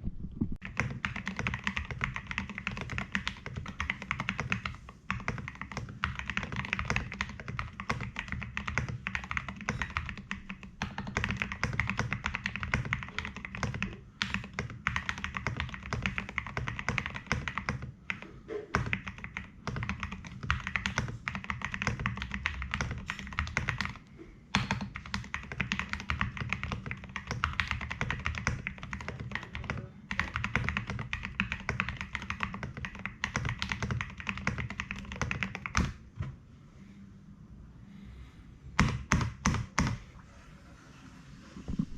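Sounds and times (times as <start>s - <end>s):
mechanical keyboard typing: 0.6s - 18.2s, 18.8s - 24.0s, 24.6s - 36.0s.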